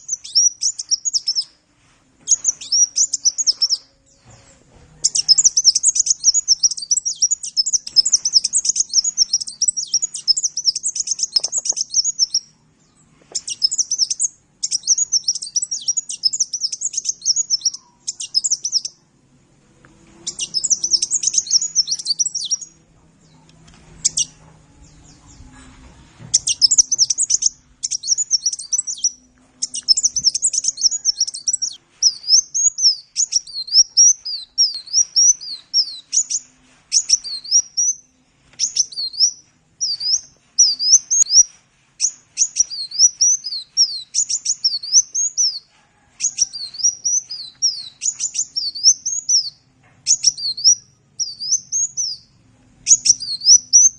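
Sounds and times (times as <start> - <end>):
sunbird twittering song: 0.0 - 1.6, 2.3 - 19.0, 20.2 - 45.7, 46.3 - 52.3, 52.9 - 53.9.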